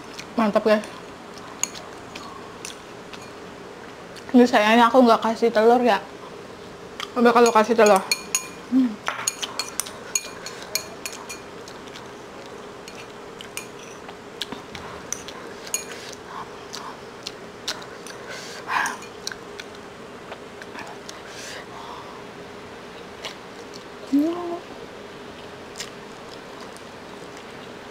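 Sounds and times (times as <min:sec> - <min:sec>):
soft eating noises: 0:00.0 - 0:04.7, 0:06.1 - 0:27.9.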